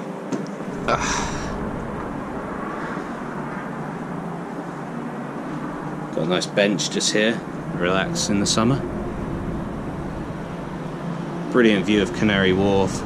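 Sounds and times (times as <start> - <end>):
distant traffic rumble: 0.0 - 13.0
wind rumble on microphone: 0.6 - 13.0.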